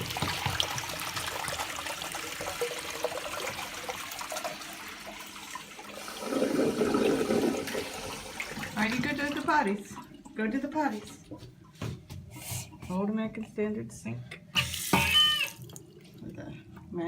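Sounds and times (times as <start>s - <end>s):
urinal flushing: 0.0s - 13.0s, 14.6s - 16.8s.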